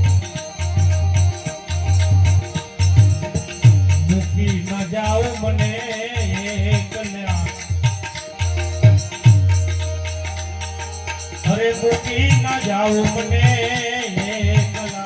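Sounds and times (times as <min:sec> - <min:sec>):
jingling percussion: 0:00.0 - 0:15.0
wavering melody: 0:00.0 - 0:15.0.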